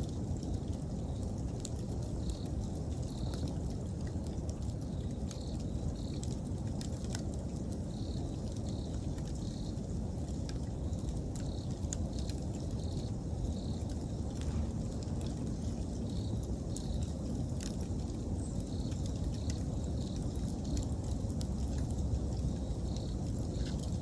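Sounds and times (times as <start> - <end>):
campfire crackling: 0.0 - 24.0
insects chirping: 0.4 - 24.0.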